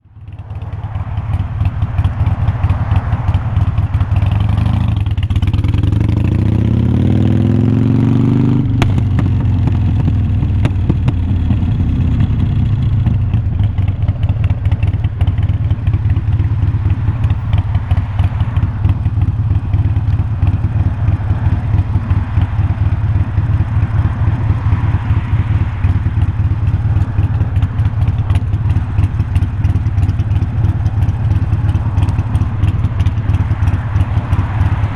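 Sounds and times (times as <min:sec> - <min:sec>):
motorcycle engine running loud: 0:00.0 - 0:34.9.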